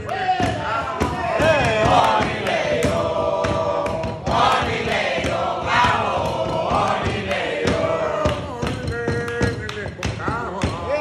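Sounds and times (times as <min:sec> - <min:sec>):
group singing a chant: 0:00.0 - 0:11.0
hand clapping: 0:00.0 - 0:11.0.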